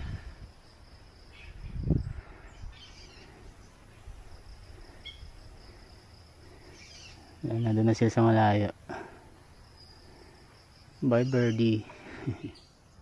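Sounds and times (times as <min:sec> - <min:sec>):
birds chirping: 0:00.0 - 0:13.0
insects buzzing: 0:00.0 - 0:13.0.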